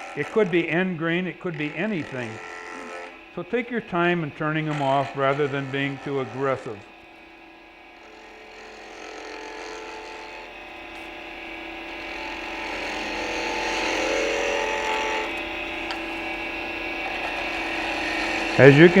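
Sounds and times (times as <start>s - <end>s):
wood lathe cutting wood: 0.0s - 19.0s.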